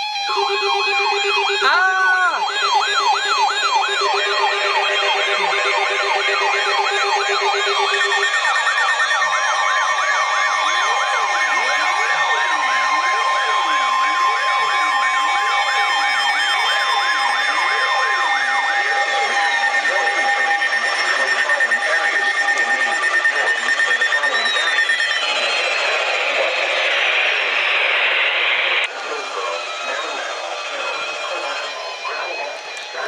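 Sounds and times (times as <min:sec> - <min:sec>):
slower lower siren wail: 0:00.0 - 0:27.6
electronic sirens wailing: 0:00.0 - 0:33.0.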